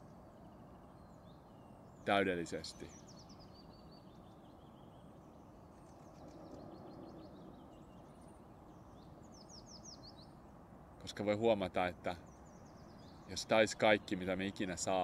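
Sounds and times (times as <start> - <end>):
birdsong trills: 0.0 - 15.0
soft low background noise: 0.0 - 15.0.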